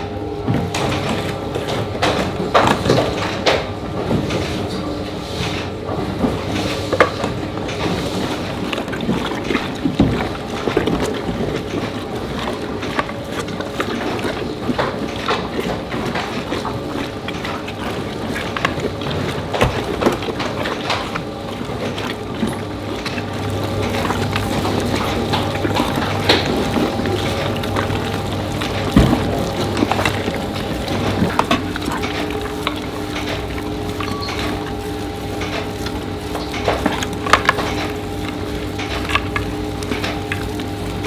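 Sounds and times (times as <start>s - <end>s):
dough mixer humming: 0.0s - 41.0s
mixer knocks and clicks: 5.9s - 41.0s.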